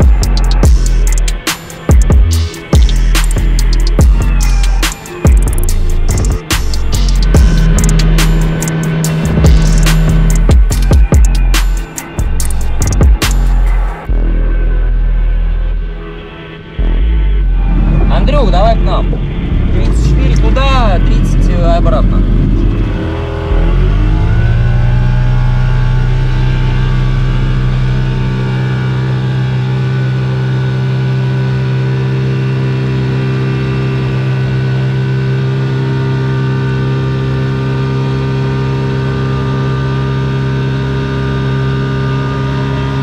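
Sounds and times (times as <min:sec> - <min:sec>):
outboard motor revving: 0:00.0 - 0:43.0.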